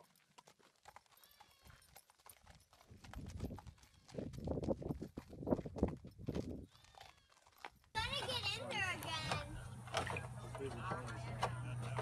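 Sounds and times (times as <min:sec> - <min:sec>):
horse hoofbeats on dirt: 0:00.0 - 0:12.0.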